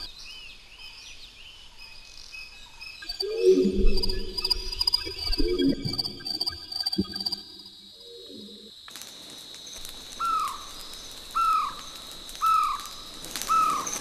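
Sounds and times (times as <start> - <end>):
forest ambience buzz and hiss: 0.0 - 14.0.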